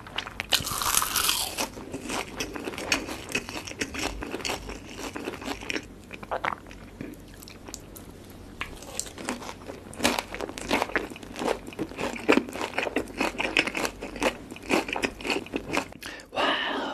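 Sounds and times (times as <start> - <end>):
chewing crispy fried chicken: 0.0 - 16.2.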